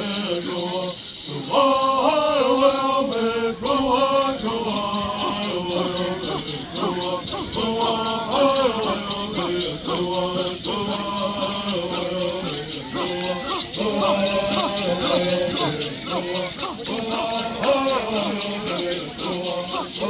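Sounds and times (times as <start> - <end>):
gourd rattles shaken: 0.0 - 20.0
people singing: 0.0 - 20.0.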